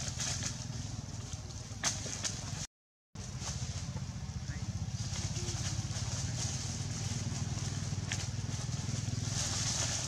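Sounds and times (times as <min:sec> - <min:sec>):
small engine rumbling: 0:00.0 - 0:10.0.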